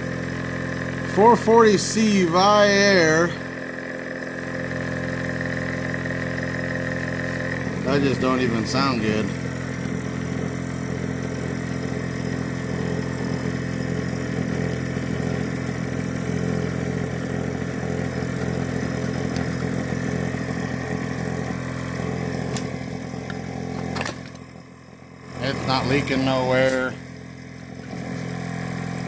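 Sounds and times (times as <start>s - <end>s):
air compressor motor humming: 0.0s - 29.0s.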